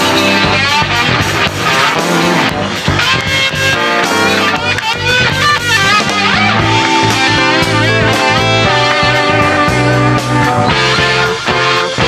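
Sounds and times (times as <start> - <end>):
bass guitar: 0.0 - 12.0
drums: 0.0 - 12.0
electric guitar bending notes: 0.0 - 12.0.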